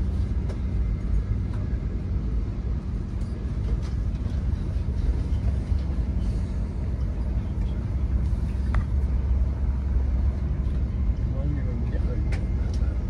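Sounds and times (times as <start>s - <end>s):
steady hum: 0.0s - 13.0s
train running low rumble: 0.0s - 13.0s.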